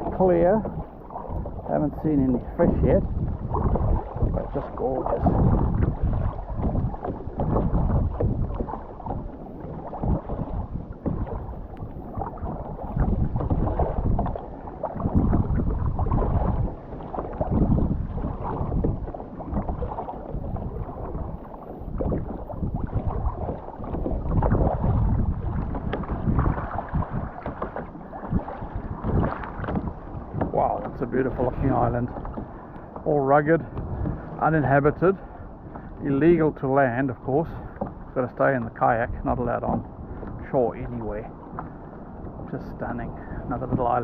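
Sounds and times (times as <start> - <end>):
paddle splashing water: 0.0 - 44.0.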